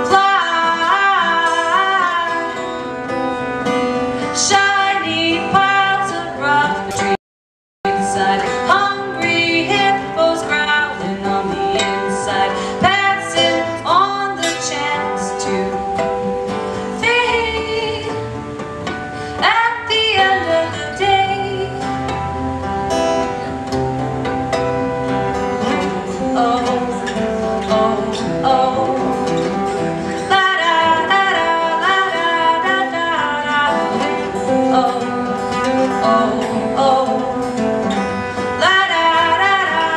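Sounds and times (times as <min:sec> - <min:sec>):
person singing: 0:00.0 - 0:02.8, 0:04.2 - 0:07.2, 0:07.9 - 0:16.2, 0:16.8 - 0:18.3, 0:19.1 - 0:22.2, 0:25.6 - 0:39.9
plucked acoustic guitar: 0:00.0 - 0:07.2, 0:07.9 - 0:39.9.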